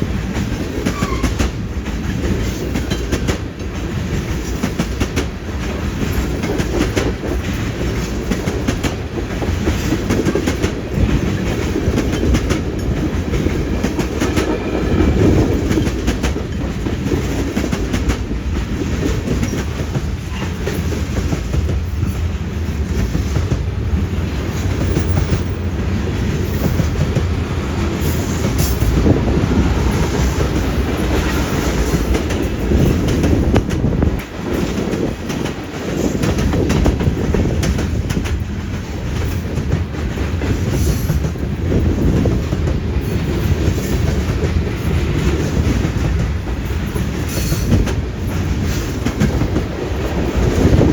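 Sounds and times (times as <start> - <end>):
freight train rumbling past: 0.0 - 50.9
wheels clacking over rail joints: 0.0 - 50.9.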